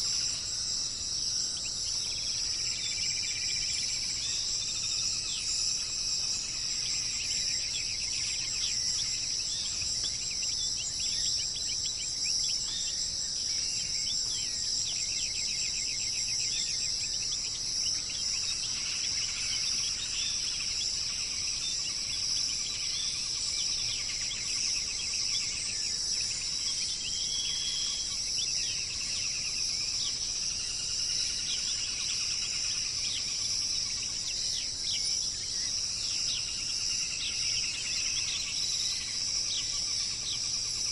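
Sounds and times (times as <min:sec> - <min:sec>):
birds chirping and trilling: 0:00.0 - 0:40.9
high-pitched insect chorus: 0:00.0 - 0:40.9.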